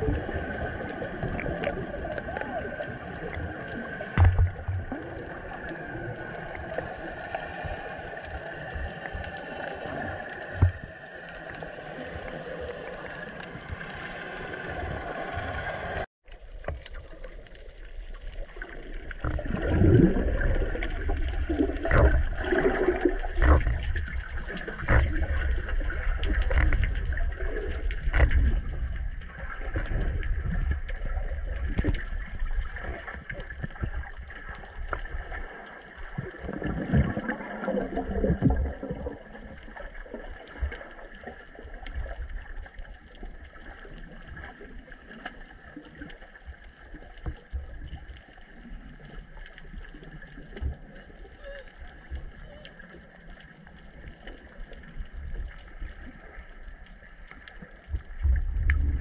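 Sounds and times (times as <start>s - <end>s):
muffled underwater noise: 0.0s - 16.1s, 17.1s - 59.0s.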